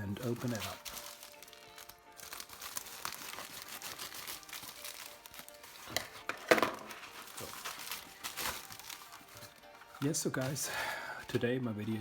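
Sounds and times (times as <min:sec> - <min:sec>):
packaging ripping: 0:00.0 - 0:10.5
packaging crinkling: 0:00.0 - 0:10.6.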